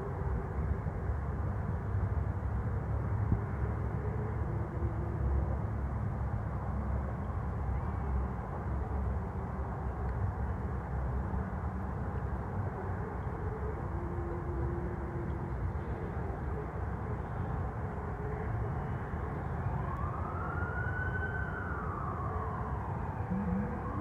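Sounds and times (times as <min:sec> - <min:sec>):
low rumble of cars: 0:00.0 - 0:24.0.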